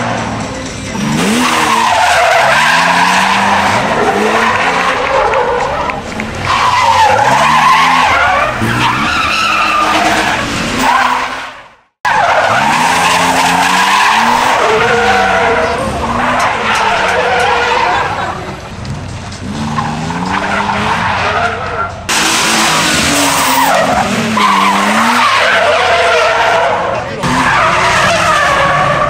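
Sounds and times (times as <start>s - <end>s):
car engine revving: 0.0s - 29.0s
tyres squealing: 0.9s - 29.0s.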